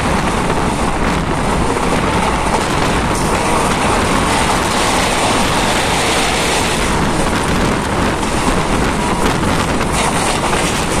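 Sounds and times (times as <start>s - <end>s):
moving vehicle rumble: 0.0s - 11.0s
wind buffeting microphone: 0.0s - 11.0s.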